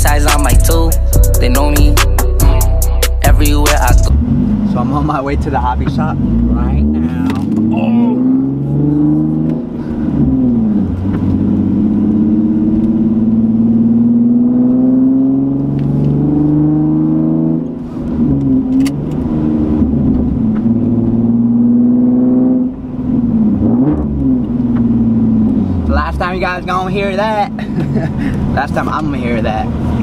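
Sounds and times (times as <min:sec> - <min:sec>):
car engine accelerating: 0:03.2 - 0:30.0.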